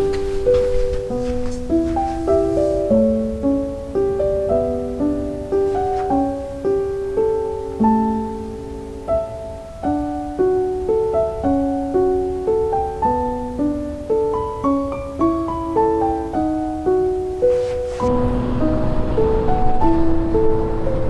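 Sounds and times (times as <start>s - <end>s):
slow solo piano melody: 0.0s - 21.0s.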